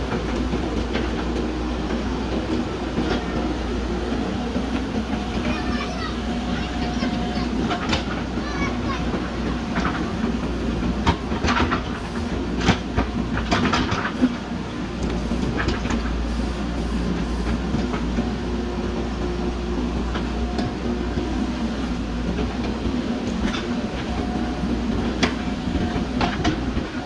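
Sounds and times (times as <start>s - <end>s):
backhoe diesel engine running: 0.0s - 27.0s.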